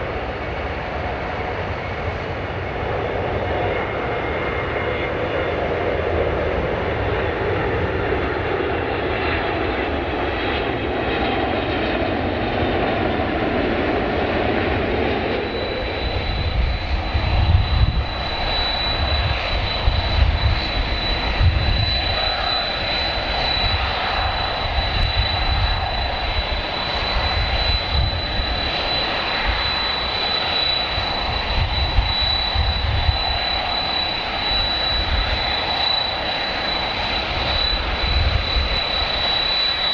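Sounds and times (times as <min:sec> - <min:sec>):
jet engines running: 0:00.0 - 0:39.9
steady high whine: 0:00.0 - 0:39.9.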